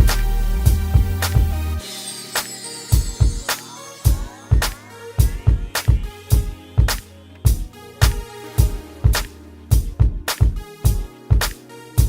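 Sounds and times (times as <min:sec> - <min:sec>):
background music with drum beat: 0:00.0 - 0:11.6.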